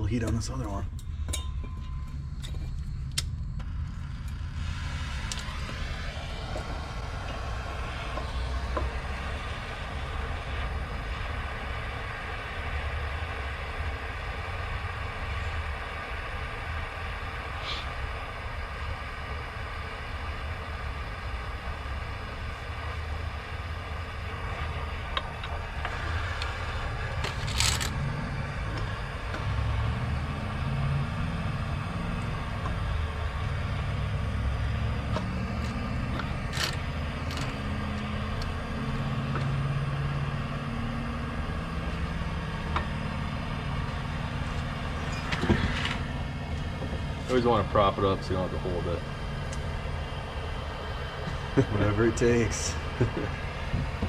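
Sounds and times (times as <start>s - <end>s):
gas torch flame roaring: 2.1s - 54.0s.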